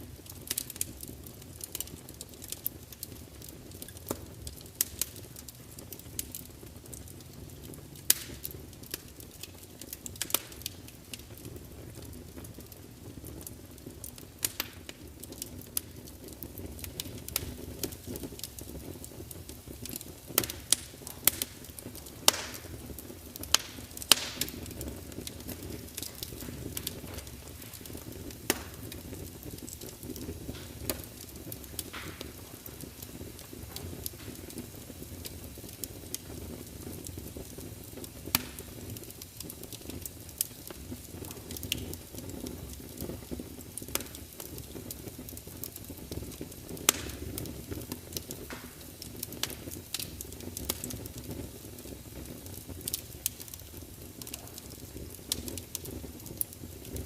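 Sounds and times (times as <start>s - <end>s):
burning wood crackling and popping: 0.0s - 57.0s
low rumble of flames: 0.0s - 57.0s.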